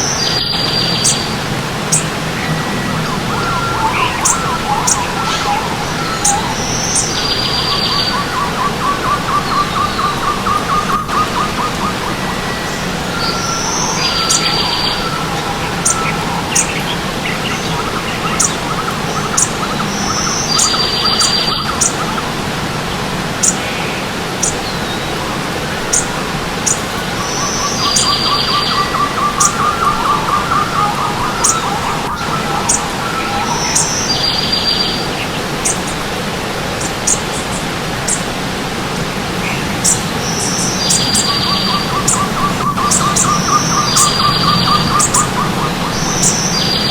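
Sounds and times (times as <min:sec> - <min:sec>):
birds singing and chirping: 0:00.0 - 0:46.9
stream water rushing: 0:00.0 - 0:46.9.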